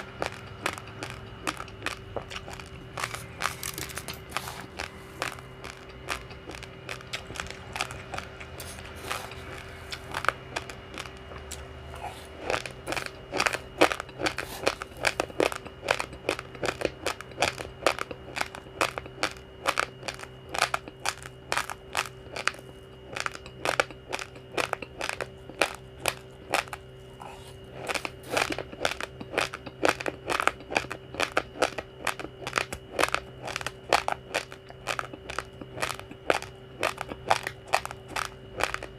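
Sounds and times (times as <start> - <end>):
faint steady hum: 0.0 - 38.9
rice grains crunched between teeth: 0.0 - 38.9.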